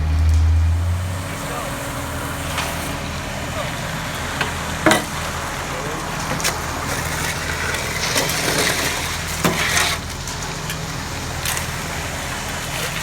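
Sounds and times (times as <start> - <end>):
scraping: 0.0 - 12.1
heavy vehicle engine running: 0.0 - 13.0.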